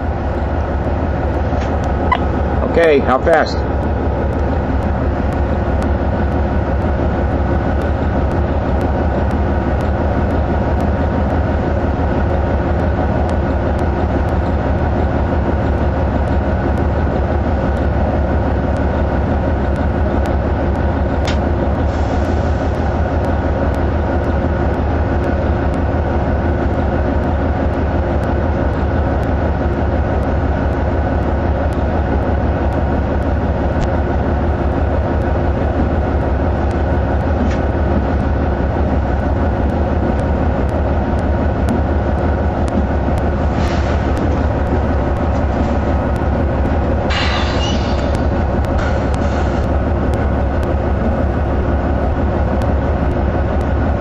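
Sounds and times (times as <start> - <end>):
diesel locomotive engine humming: 0.0 - 54.0.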